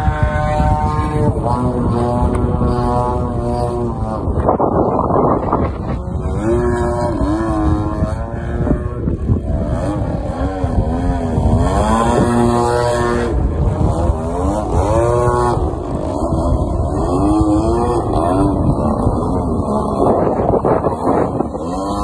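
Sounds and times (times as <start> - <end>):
model propeller plane flying: 0.0 - 22.0.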